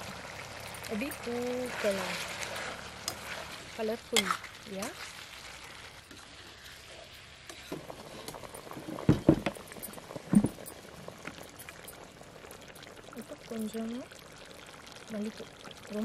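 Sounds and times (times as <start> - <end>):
boiling pops: 0.0 - 16.0
water boiling and bubbling: 0.0 - 16.0.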